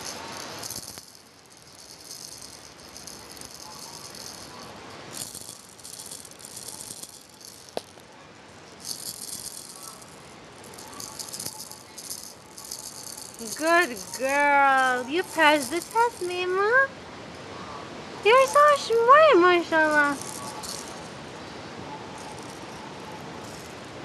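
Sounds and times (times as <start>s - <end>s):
baby rattle shaken: 0.0s - 16.9s, 18.3s - 21.3s, 22.2s - 24.0s.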